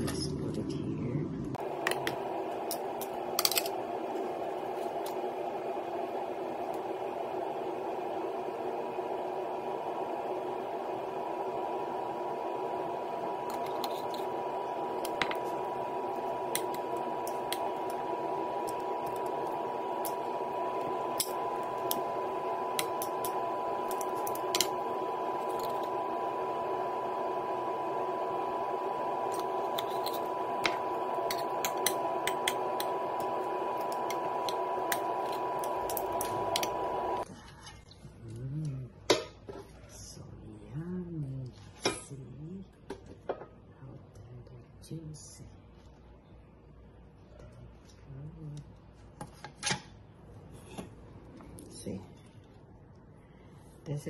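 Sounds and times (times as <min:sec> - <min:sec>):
steady hum with thin tone: 0:00.8 - 0:49.3.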